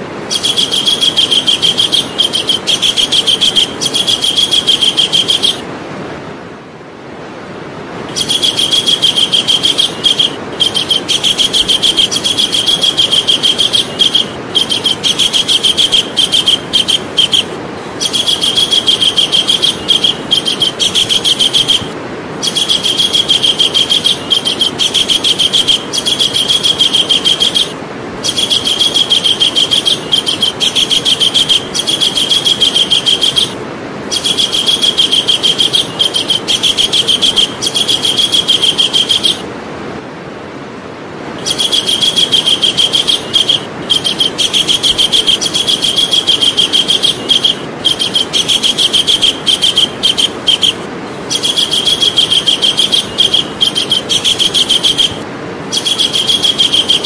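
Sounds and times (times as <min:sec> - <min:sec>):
kingfisher calling: 0:00.1 - 0:05.7, 0:08.1 - 0:39.5, 0:41.4 - 0:57.0.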